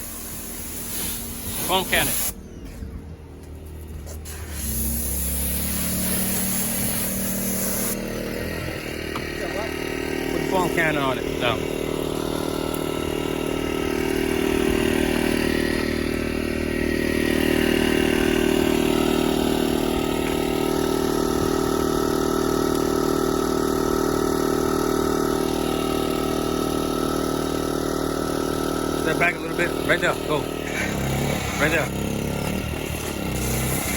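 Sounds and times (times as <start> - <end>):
small gasoline engine droning: 0.0 - 33.9.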